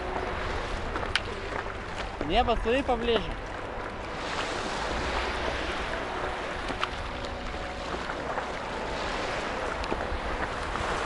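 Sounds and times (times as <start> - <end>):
small waves on a pebble shore: 0.0 - 11.0
water lapping around a paddleboard: 0.0 - 11.0
wind rumbling on microphone: 0.0 - 11.0.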